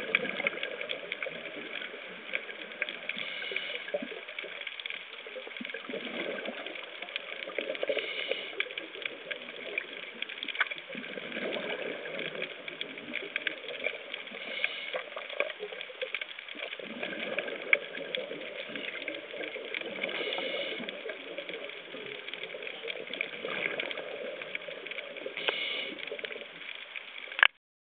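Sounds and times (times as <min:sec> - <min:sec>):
diver's exhaled bubbles: 0:00.0 - 0:04.6, 0:05.4 - 0:26.6
fine crackle of clicks: 0:00.0 - 0:27.6.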